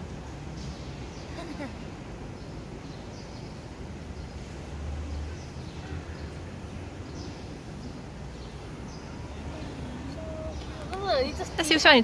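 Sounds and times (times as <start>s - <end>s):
small birds chirping: 0.5s - 12.0s.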